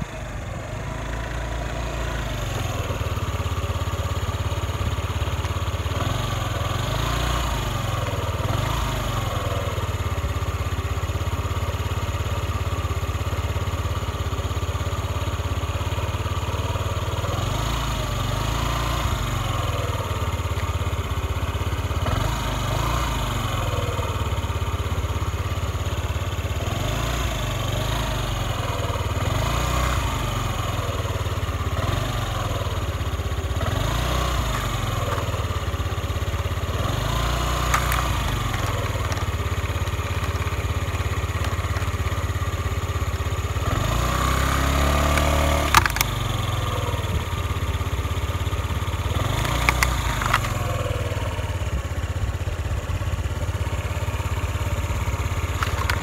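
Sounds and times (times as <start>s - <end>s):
moped engine idling and revving: 0.0s - 56.0s.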